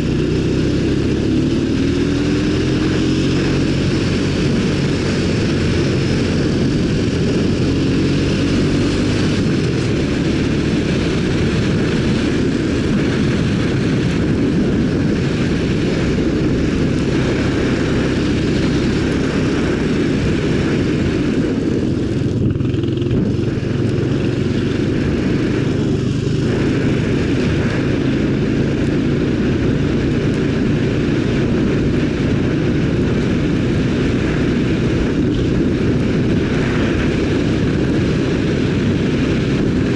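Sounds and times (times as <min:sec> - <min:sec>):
atv engine droning: 0:00.0 - 0:39.9.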